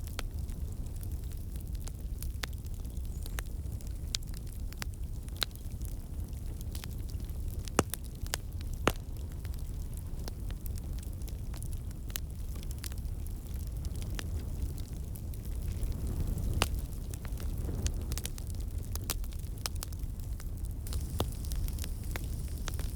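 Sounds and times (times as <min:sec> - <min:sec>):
fire crackling and popping: 0:00.0 - 0:22.9
low rumble of flames: 0:00.0 - 0:22.9.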